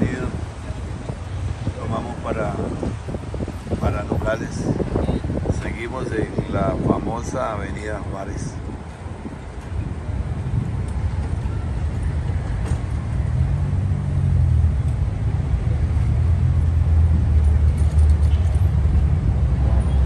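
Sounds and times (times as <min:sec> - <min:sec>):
car engines rumbling: 0:00.0 - 0:20.0.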